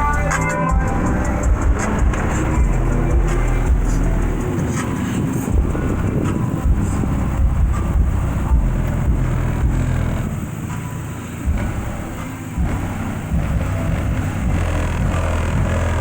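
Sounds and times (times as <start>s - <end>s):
deep bass from car subwoofers: 0.0s - 16.0s.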